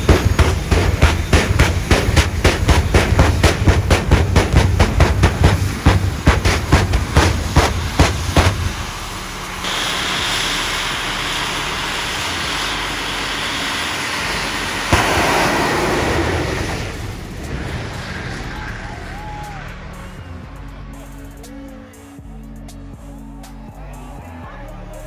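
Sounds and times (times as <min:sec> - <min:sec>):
loud steady rushing noise: 0:00.0 - 0:22.2
low pulsing engine rumble: 0:00.0 - 0:25.0.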